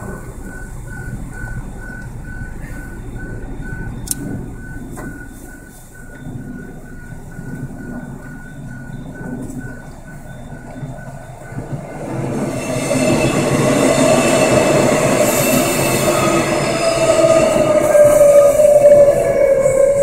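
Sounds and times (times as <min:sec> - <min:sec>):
crossing warning bell beeping: 0:00.0 - 0:20.0.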